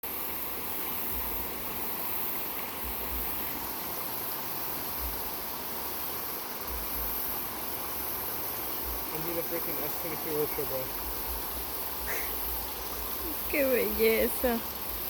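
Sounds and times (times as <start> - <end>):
rushing flowing water: 0.0 - 15.0.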